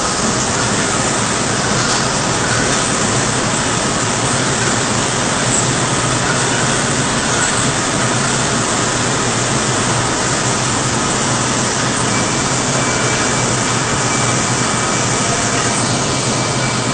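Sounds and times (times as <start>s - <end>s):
higher machine whine: 0.0s - 16.9s
loud steady machine noise: 0.0s - 16.9s.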